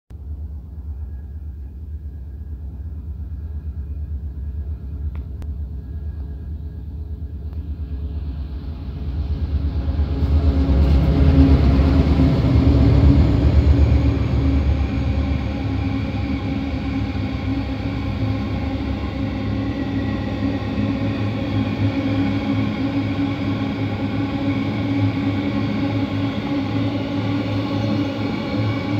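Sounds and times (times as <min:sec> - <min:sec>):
diesel locomotive engine rumble: 0:00.1 - 0:28.9.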